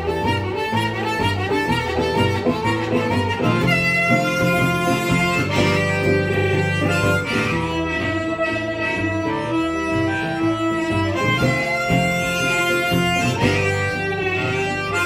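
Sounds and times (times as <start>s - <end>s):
blues harmonica: 0.0s - 15.0s
guitar accompaniment: 0.0s - 15.0s.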